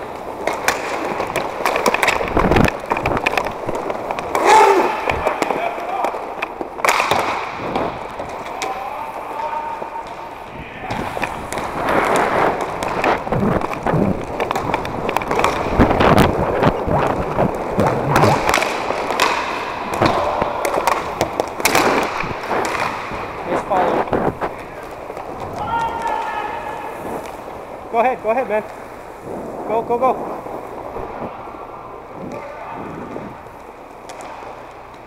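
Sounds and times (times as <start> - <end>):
skate wheels rolling on plastic tiles: 0.0 - 35.0.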